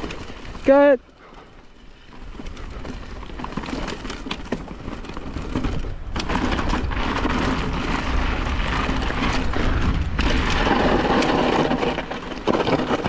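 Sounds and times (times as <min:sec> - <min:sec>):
bike tyres crunching on rocks: 0:00.0 - 0:13.0
wind rumbling on microphone: 0:01.5 - 0:13.0
sharp clicks and rattles: 0:02.2 - 0:13.0.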